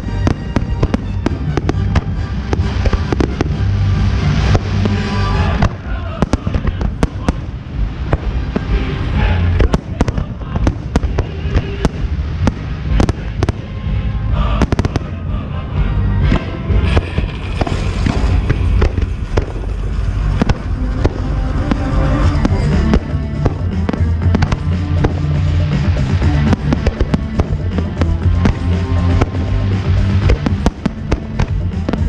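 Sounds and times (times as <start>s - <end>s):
fireworks bangs: 0.0s - 13.9s, 14.6s - 15.3s, 16.2s - 32.0s
low rumble: 0.0s - 32.0s
music playing: 0.0s - 32.0s.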